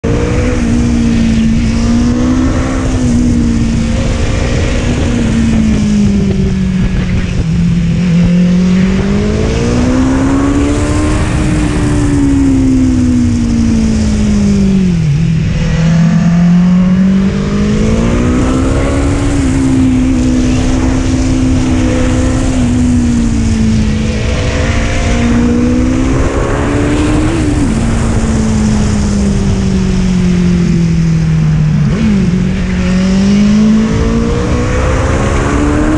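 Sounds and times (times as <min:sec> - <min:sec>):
motorcycle engine revving: 0:00.0 - 0:35.9
wind rush: 0:00.0 - 0:35.9.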